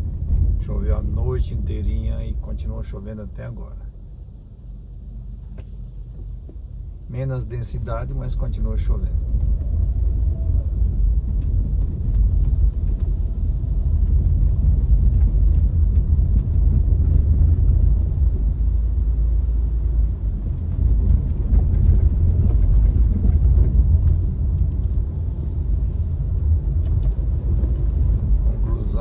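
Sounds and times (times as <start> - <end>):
car driving on wet road: 0.0 - 29.0.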